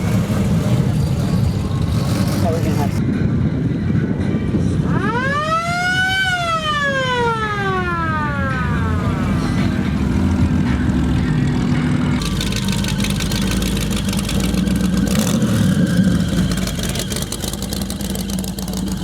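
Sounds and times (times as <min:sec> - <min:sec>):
vehicle engines idling: 0:00.0 - 0:04.9, 0:05.8 - 0:19.0.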